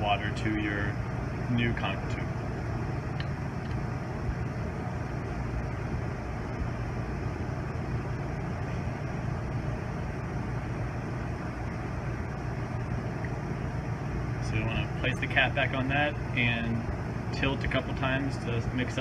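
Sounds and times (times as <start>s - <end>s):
ventilation hum and hiss: 0.0s - 19.0s.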